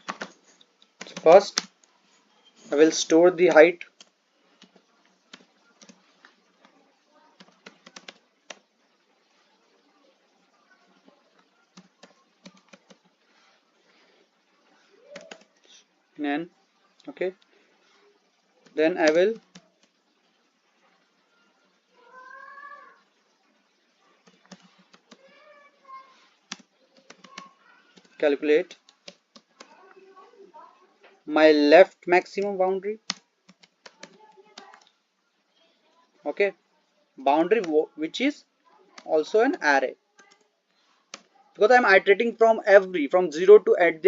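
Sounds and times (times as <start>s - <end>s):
faint keyboard typing: 0.0s - 2.8s, 3.8s - 16.0s, 16.7s - 31.2s, 31.8s - 35.1s, 37.4s - 37.8s, 38.6s - 41.8s.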